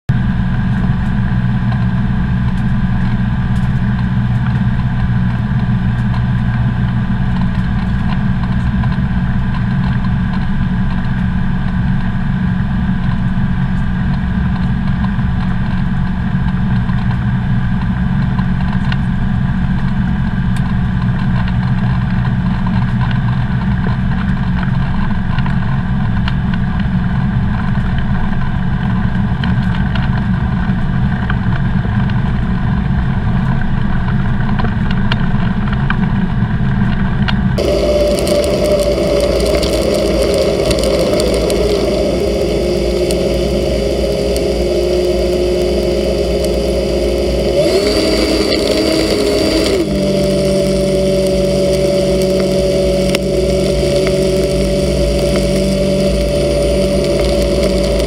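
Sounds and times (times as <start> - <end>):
propeller engine running: 0.0 - 58.0.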